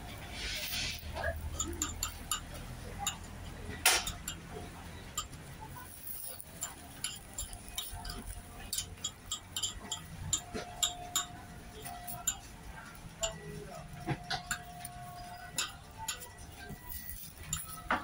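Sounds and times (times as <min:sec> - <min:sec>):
metal pick clinking on griddle: 0:00.4 - 0:18.0.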